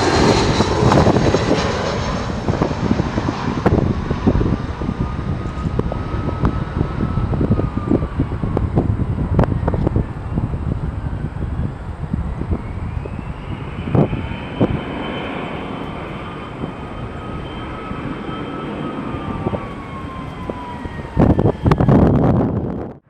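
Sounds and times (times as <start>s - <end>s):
jet engines whining: 0.0s - 23.0s
wind buffeting microphone: 0.0s - 23.0s.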